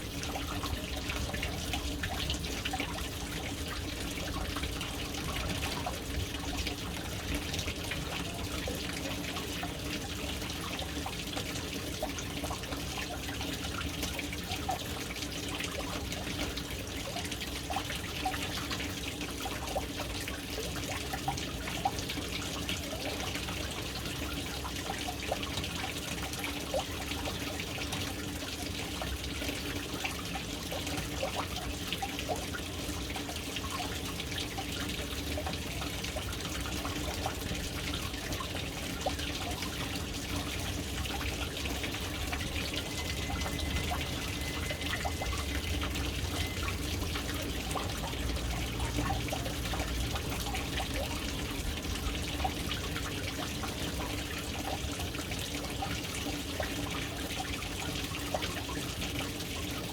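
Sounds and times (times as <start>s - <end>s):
low steady hum: 0.0s - 17.4s, 27.0s - 58.2s
water drips: 0.0s - 59.9s
water trickling into tank: 0.0s - 59.9s.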